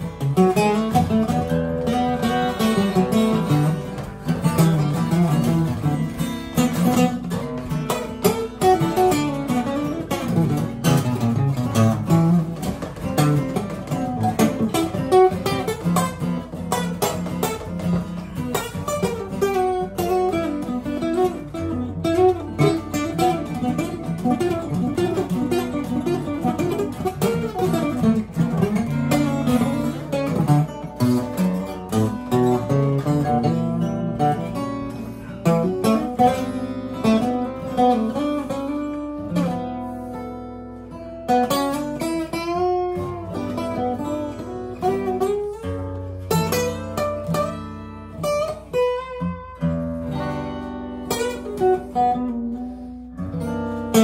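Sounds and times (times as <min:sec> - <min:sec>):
acoustic guitar duet: 0:00.0 - 0:54.0.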